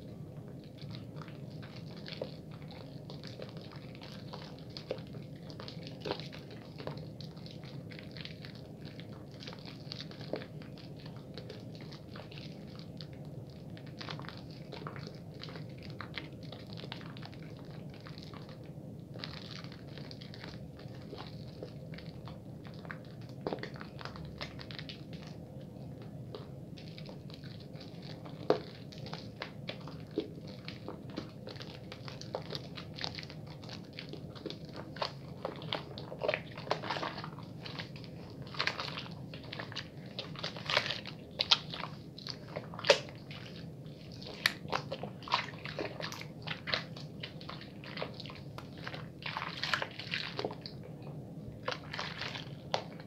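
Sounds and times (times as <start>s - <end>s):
steady low hum: 0.0s - 53.0s
hands lathering wet soap: 0.3s - 53.0s.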